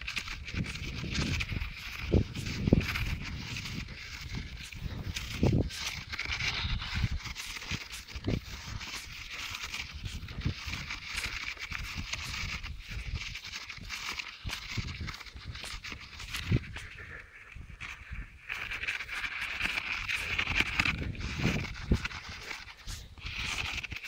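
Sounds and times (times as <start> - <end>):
footsteps on sandy dirt: 0.0 - 24.0.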